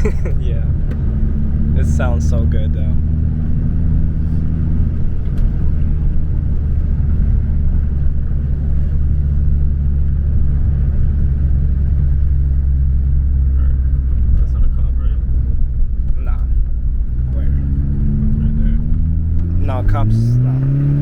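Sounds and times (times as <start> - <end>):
car engine running: 0.0 - 21.0
road noise: 0.0 - 21.0.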